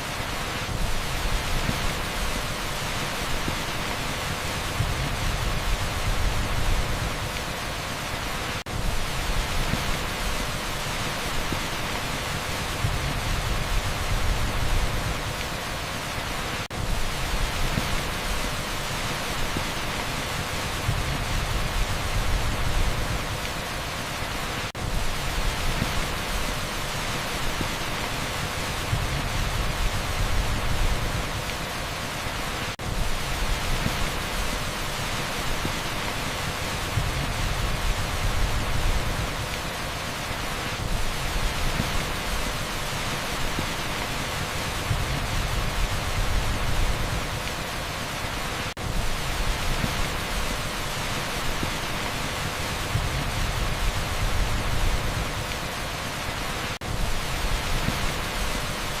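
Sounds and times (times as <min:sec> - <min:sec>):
heavy rain on asphalt: 0:00.0 - 0:59.0.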